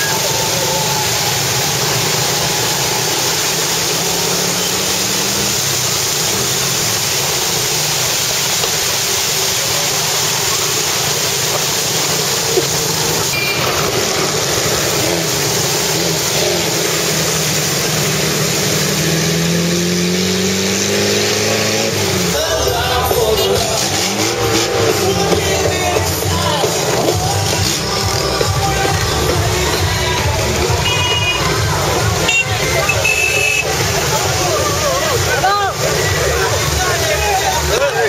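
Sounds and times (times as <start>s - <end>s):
water spray rushing: 0.0s - 38.0s.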